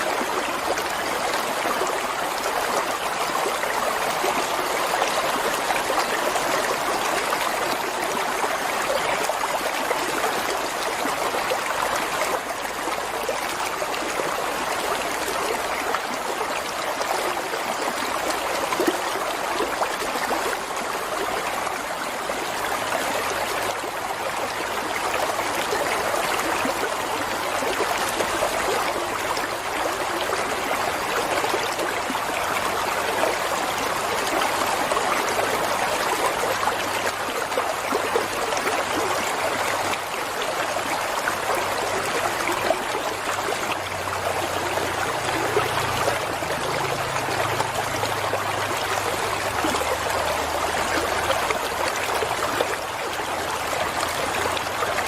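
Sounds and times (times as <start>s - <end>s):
water flowing: 0.0s - 55.0s.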